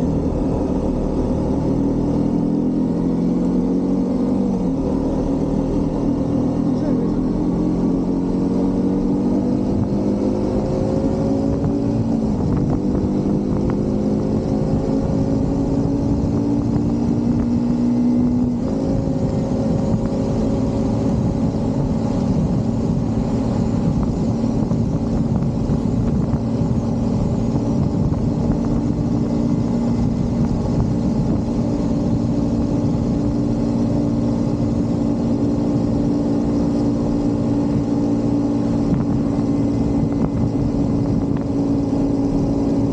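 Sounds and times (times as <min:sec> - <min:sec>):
motorcycle engine accelerating: 0:00.0 - 0:42.9
wind and road noise: 0:00.0 - 0:42.9.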